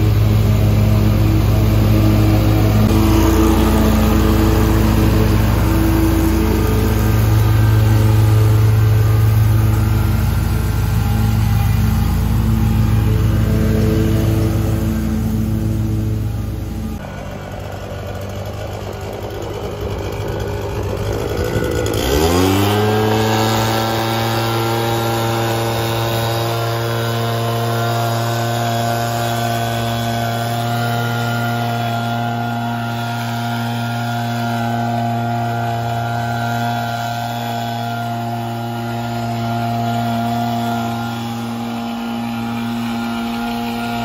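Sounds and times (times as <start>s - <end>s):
leaf blower engine revving: 0.0s - 44.0s.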